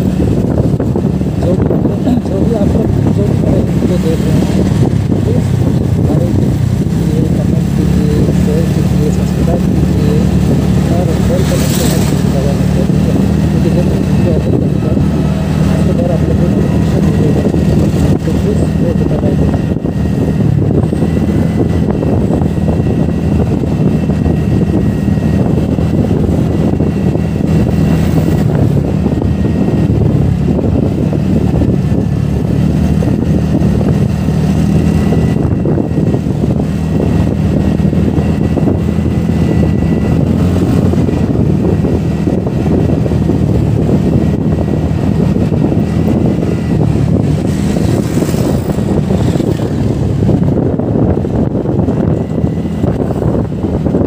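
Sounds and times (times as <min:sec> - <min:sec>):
scooter engine cruising: 0:00.0 - 0:54.0
wind rush on microphone: 0:00.0 - 0:54.0.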